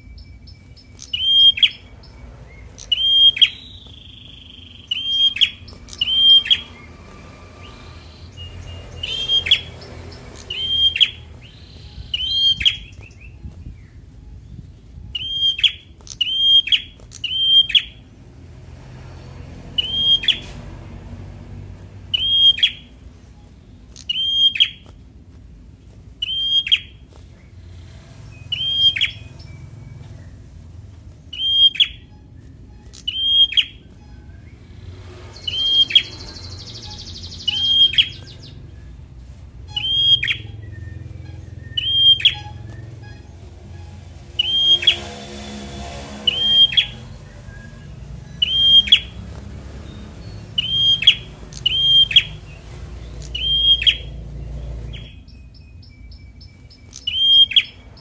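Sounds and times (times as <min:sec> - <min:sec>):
prinia chirping: 0:00.0 - 0:58.0.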